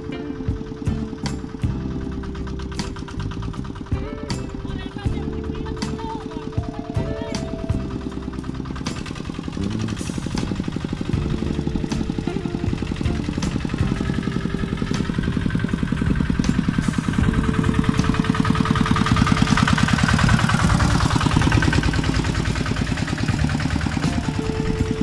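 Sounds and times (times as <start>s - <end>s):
diesel tractor engine puttering: 0.0s - 25.0s.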